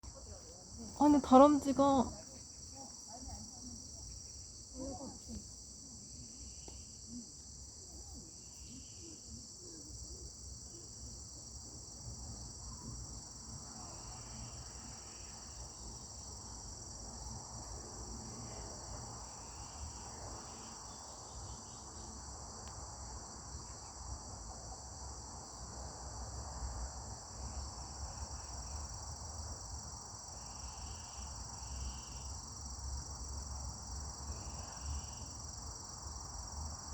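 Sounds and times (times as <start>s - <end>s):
crickets and insects chirping: 0.0s - 36.9s.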